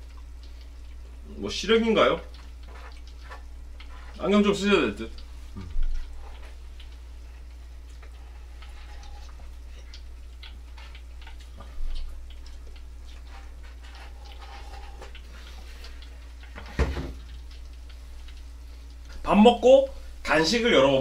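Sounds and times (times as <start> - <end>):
food frying in oil: 0.0 - 21.0
steady low hum: 0.0 - 21.0.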